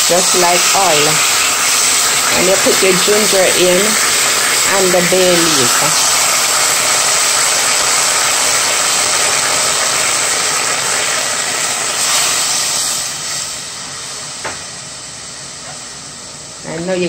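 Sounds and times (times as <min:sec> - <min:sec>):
water sizzling in hot pot: 0:00.0 - 0:17.0.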